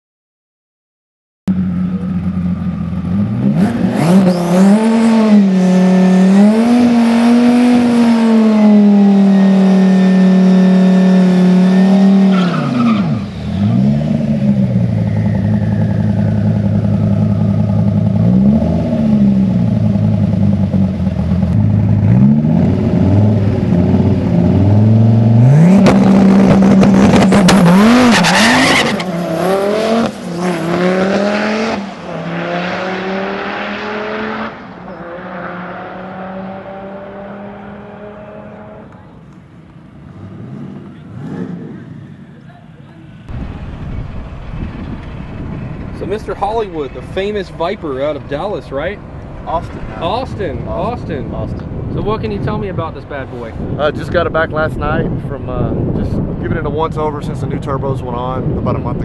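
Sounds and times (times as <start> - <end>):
car engine revving: 1.5 - 59.0.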